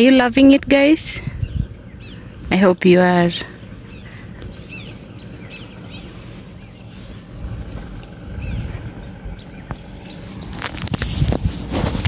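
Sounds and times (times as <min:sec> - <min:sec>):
insect chirping: 0:00.0 - 0:11.0
low rumble: 0:00.0 - 0:12.0.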